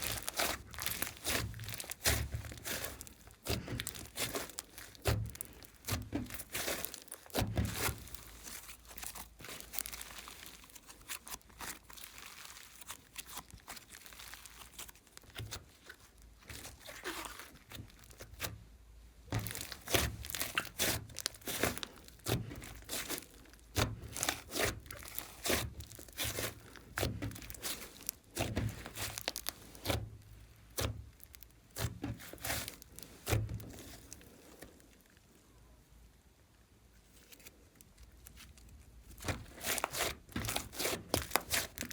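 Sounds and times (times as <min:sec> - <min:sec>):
slime squished by hand: 0:00.0 - 0:18.6, 0:19.2 - 0:35.3, 0:37.0 - 0:41.9.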